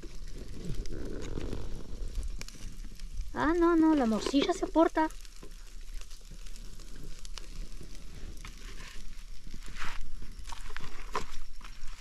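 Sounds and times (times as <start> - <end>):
charcoal grill crackling and sizzling: 0.0 - 12.0.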